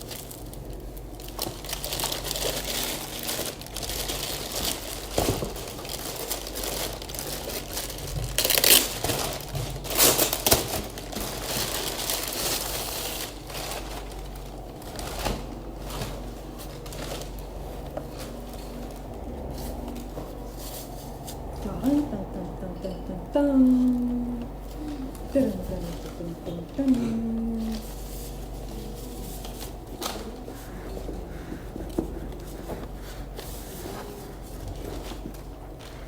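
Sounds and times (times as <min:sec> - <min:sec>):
packaging crinkling and rustling: 0:00.0 - 0:21.5, 0:27.1 - 0:36.0.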